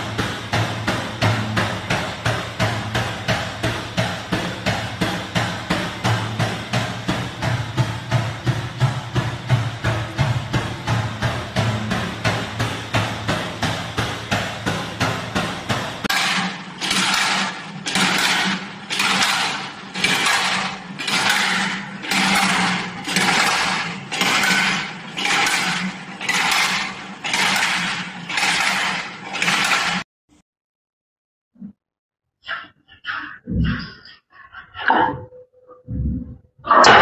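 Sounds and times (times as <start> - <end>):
machine fast clicking: 0.0 - 30.0
machine hum: 0.0 - 30.0.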